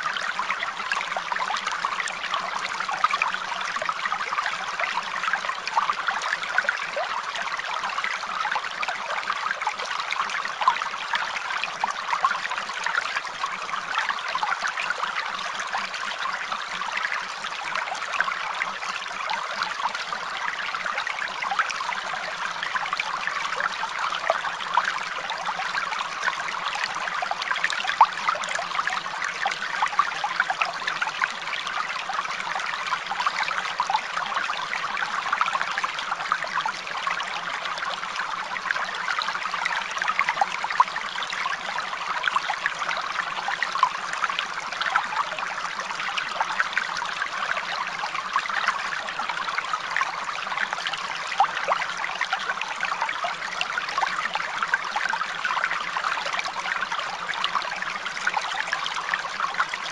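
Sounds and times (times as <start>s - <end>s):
stream trickling: 0.0s - 59.9s.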